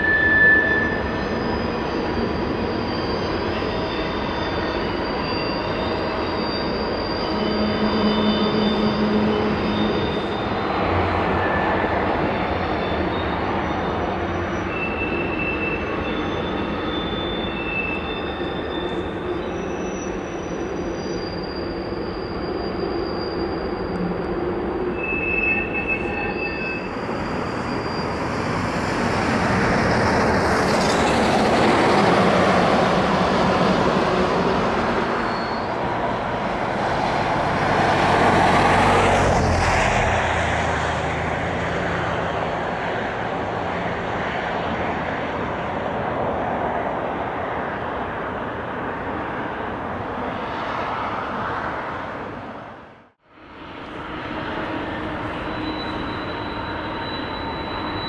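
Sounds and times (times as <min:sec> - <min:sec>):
train wheels squealing: 0:00.0 - 0:52.6, 0:53.5 - 0:58.0
freight train rumble: 0:00.0 - 0:52.7, 0:53.4 - 0:58.0.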